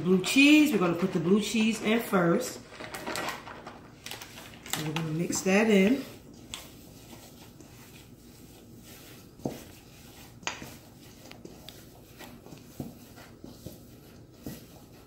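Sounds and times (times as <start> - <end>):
hand mixing meat in a bowl: 0.0 - 15.0.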